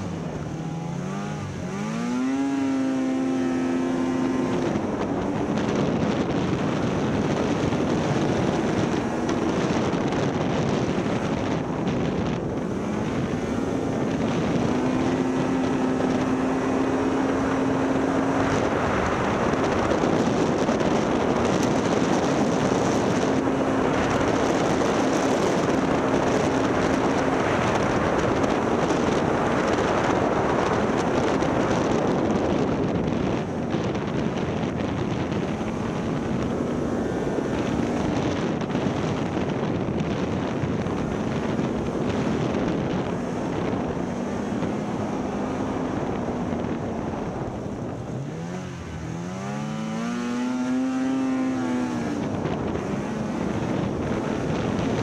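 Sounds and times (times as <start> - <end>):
snowmobile engine running: 0.0 - 55.0
wind buffeting microphone: 0.0 - 55.0.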